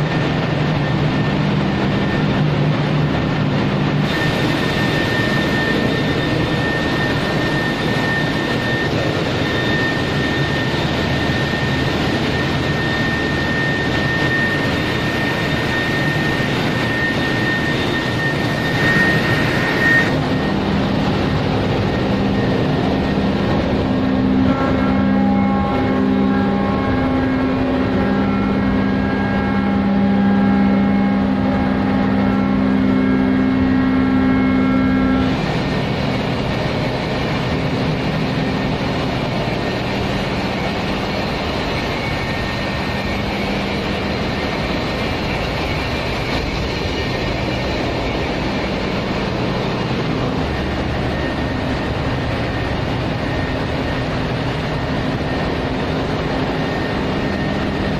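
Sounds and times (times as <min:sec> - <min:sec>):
engine room machinery: 0:00.0 - 0:57.9
low hums: 0:00.0 - 0:57.9
steady high whine: 0:00.0 - 0:57.9.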